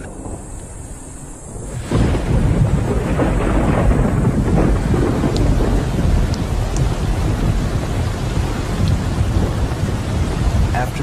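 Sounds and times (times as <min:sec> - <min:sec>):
rain falling: 0:00.0 - 0:11.0
thunder rumbling: 0:00.0 - 0:11.0.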